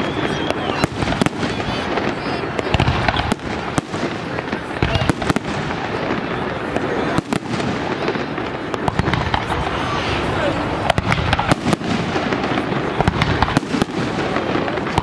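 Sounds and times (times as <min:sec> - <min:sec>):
fireworks bursting: 0:00.0 - 0:15.0
sharp firework bangs: 0:00.0 - 0:15.0.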